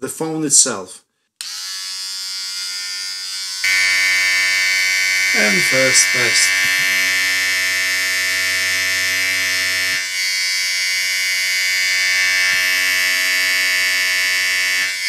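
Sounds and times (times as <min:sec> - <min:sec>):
vibrating device buzzing: 0:01.4 - 0:15.0.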